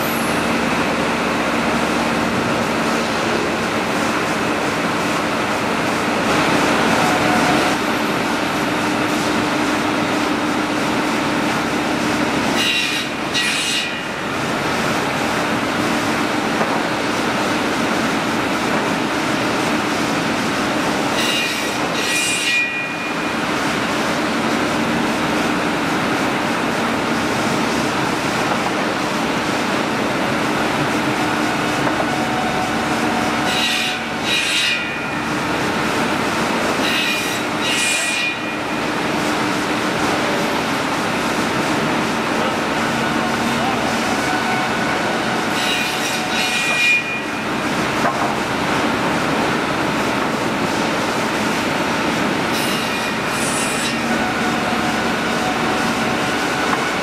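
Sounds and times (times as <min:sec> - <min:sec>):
sawmill machinery whirring: 0:00.0 - 0:57.0.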